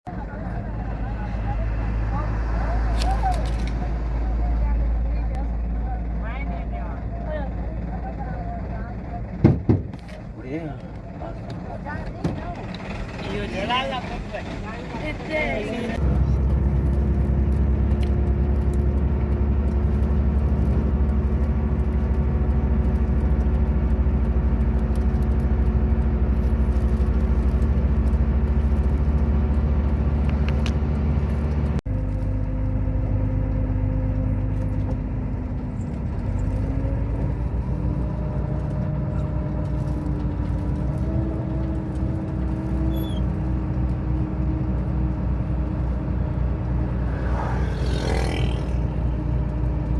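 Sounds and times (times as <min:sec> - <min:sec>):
truck diesel engine running: 0:00.1 - 0:49.9.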